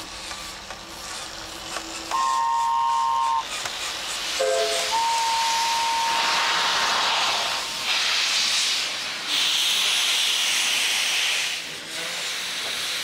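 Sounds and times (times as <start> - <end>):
steam locomotive hissing steam: 0.0 - 13.0.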